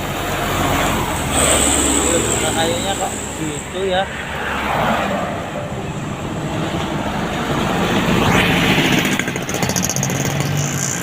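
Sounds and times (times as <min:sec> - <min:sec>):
truck passing: 0:00.0 - 0:11.0.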